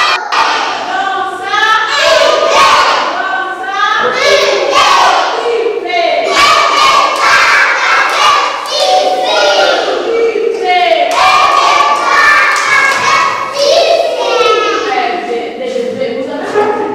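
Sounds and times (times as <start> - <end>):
children singing in unison: 0.0 - 15.6.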